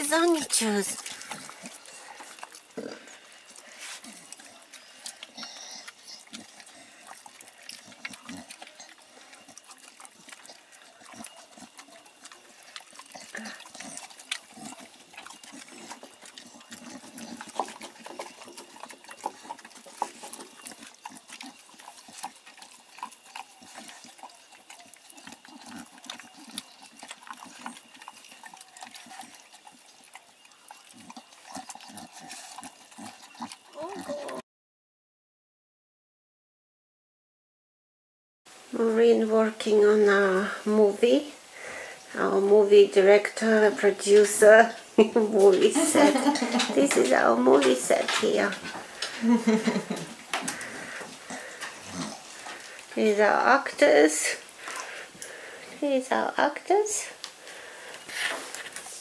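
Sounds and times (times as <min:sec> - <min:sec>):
dogs chewing and licking: 0:00.0 - 0:34.4, 0:39.5 - 0:59.0.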